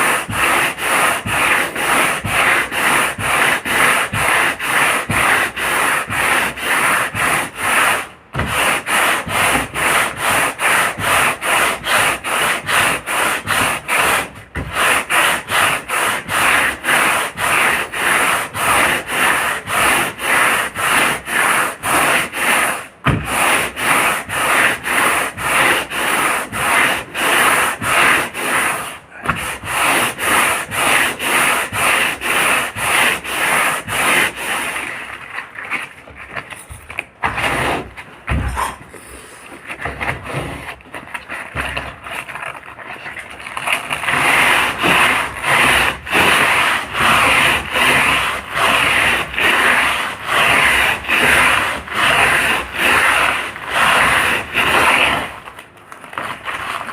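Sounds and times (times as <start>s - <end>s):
hand rubbing boat hull: 0.0s - 55.5s.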